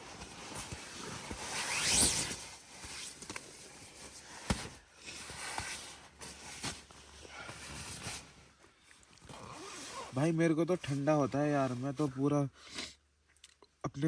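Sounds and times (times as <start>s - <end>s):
sleeping bag fabric rustling: 0.0s - 12.1s.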